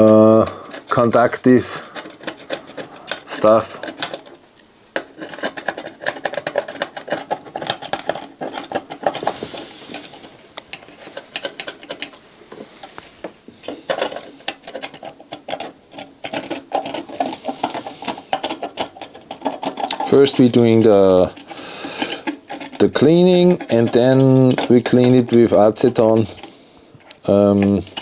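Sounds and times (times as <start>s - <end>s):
hand tool scraping circuit board: 0.0s - 4.4s, 5.0s - 12.6s, 13.6s - 28.0s.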